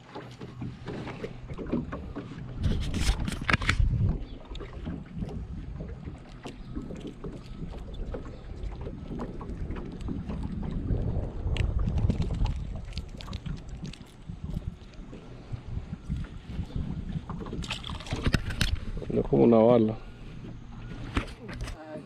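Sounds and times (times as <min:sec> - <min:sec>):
sharp knocks and splashes: 0:00.0 - 0:19.3
water noise: 0:00.0 - 0:22.0
wind buffeting microphone: 0:00.5 - 0:21.7.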